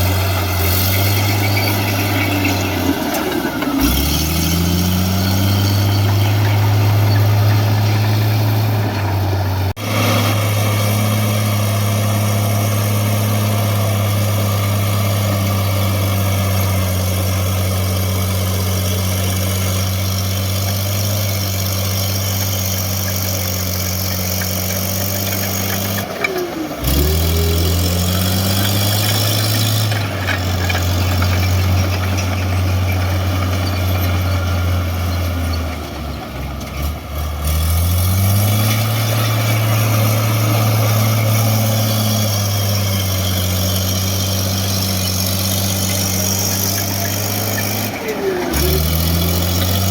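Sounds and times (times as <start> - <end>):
heavy vehicle engine running: 0.0 - 49.9.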